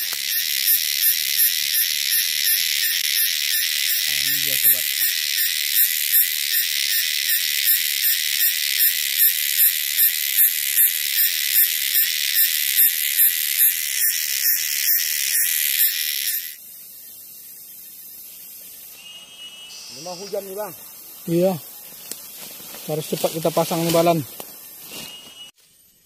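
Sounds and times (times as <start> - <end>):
insect rasping buzz: 0.0 - 25.9.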